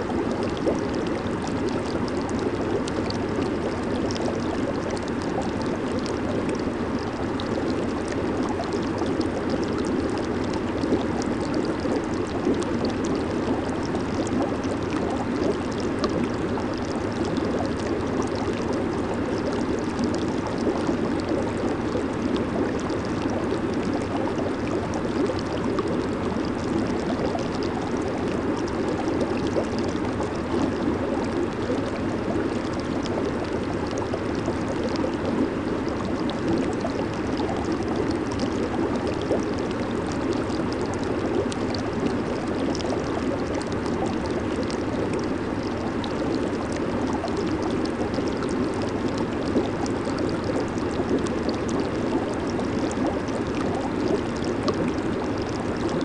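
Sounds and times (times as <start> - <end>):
hot tub water bubbling: 0.0 - 56.0.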